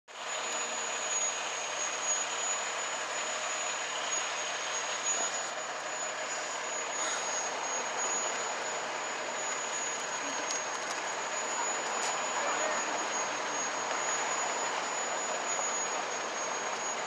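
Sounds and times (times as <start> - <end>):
fire engine idling: 0.1 - 17.0
high-pitched whine: 0.1 - 17.0.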